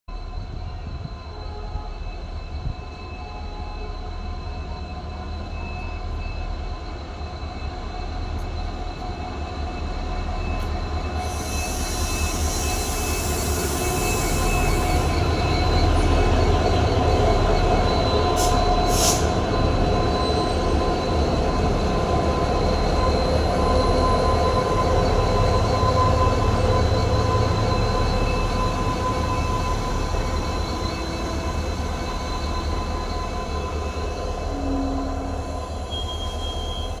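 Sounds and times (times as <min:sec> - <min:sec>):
locomotive engines humming: 0:00.1 - 0:37.0.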